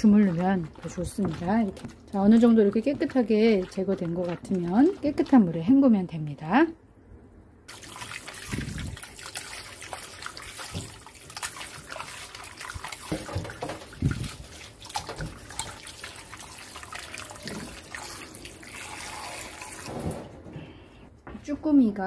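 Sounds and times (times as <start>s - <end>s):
hands sloshing in water: 0.0s - 5.8s, 7.7s - 20.1s
water splashes: 0.0s - 6.1s, 7.7s - 20.3s.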